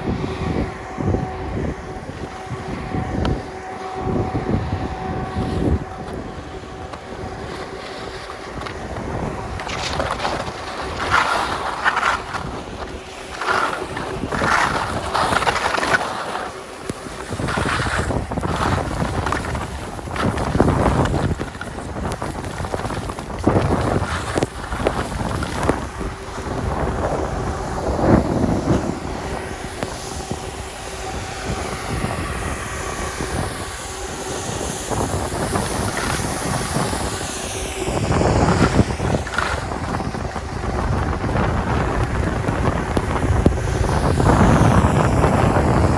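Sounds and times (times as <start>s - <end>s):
skis scraping over snow: 0.0s - 45.9s
wind buffeting microphone: 0.0s - 45.9s.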